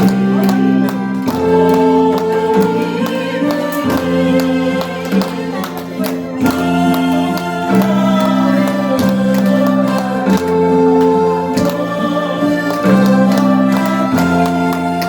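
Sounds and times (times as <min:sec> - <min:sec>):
harmonica ensemble playing: 0:00.0 - 0:15.0.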